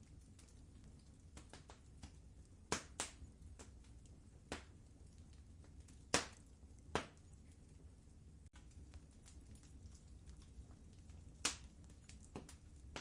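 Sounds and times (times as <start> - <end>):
fire popping: 0.0 - 13.0
fire rumbling: 0.0 - 13.0.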